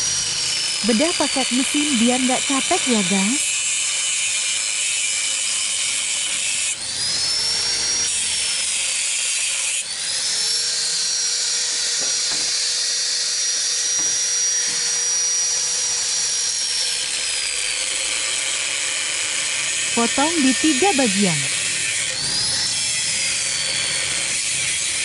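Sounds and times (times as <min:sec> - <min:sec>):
angle grinder cutting steel: 0:00.0 - 0:25.0.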